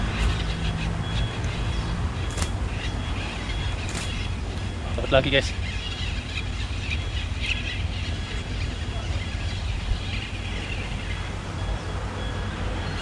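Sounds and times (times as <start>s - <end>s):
birds chirping: 0.0s - 13.0s
low outdoor rumble: 0.0s - 13.0s.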